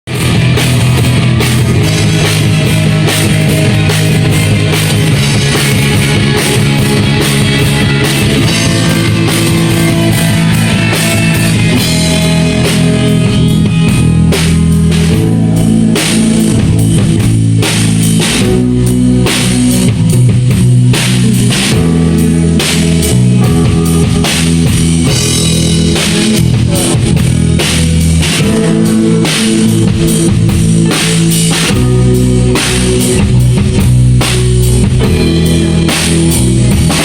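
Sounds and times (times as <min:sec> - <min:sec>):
bass guitar: 0:00.0 - 0:37.0
drum kit beating: 0:00.0 - 0:37.0
electric guitars: 0:00.0 - 0:37.0.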